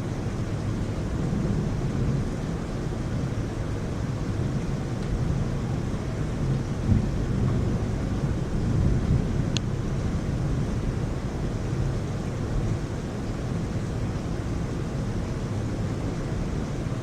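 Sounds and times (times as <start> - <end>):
heavy rain hissing: 0.0 - 17.0
low rumble of thunder: 0.0 - 17.0.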